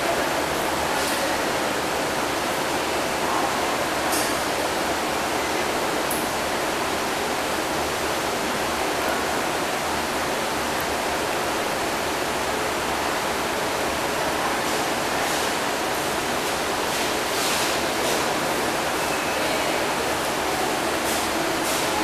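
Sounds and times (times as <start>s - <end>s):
aquarium water rushing hiss: 0.0s - 22.0s.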